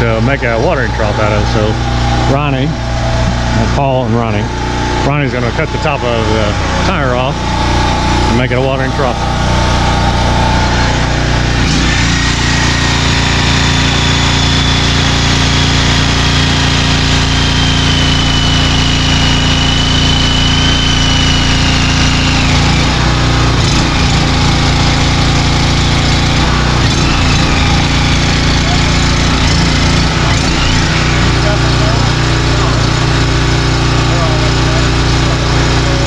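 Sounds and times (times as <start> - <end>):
engine running steadily: 0.0 - 36.0
thin high whine: 0.0 - 36.0.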